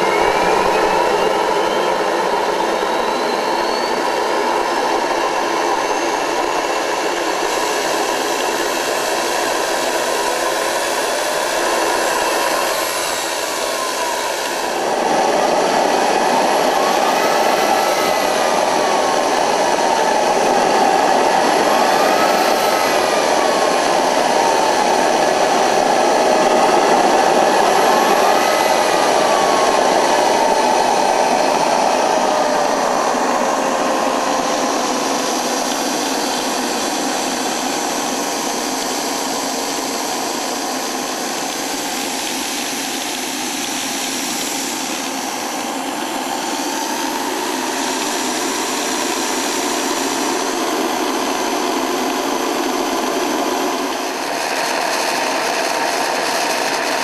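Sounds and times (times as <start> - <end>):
gas turbine roaring: 0.0 - 57.0
turbine whine falling in pitch: 0.0 - 57.0.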